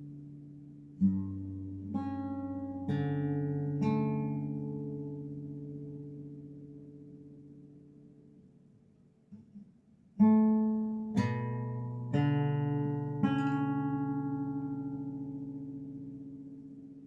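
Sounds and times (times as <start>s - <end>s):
guitar chords ringing: 0.0s - 8.0s, 10.2s - 17.0s.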